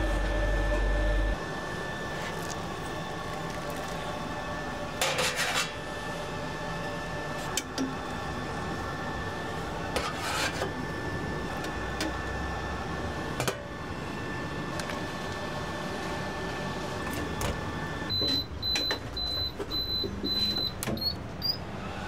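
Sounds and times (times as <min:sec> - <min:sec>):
kitchen hum: 0:00.0 - 0:22.0.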